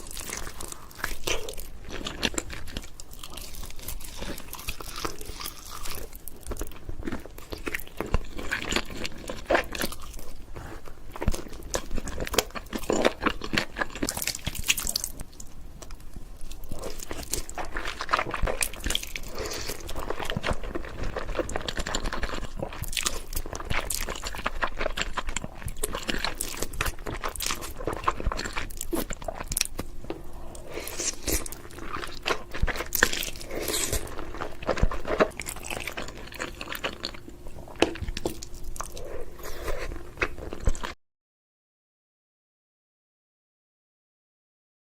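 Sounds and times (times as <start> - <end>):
crunchy biting and chewing: 0.0 - 15.3, 16.6 - 41.0.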